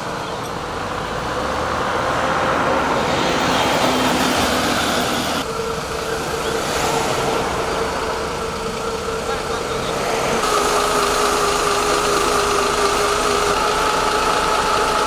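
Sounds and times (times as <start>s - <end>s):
heavy vehicle engine droning: 0.0s - 15.0s.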